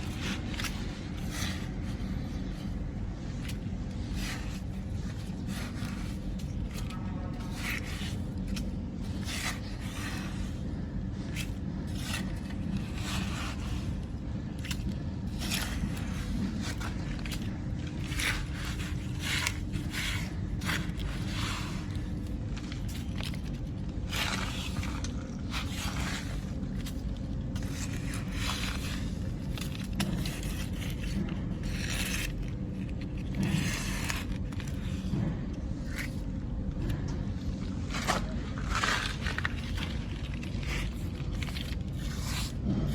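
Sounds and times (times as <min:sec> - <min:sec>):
dirt scraping: 0:00.0 - 0:36.2, 0:37.6 - 0:42.9.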